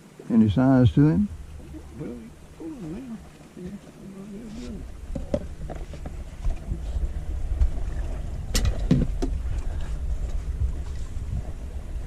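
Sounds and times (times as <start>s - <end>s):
wind buffeting microphone: 0.8s - 3.4s, 4.5s - 12.0s.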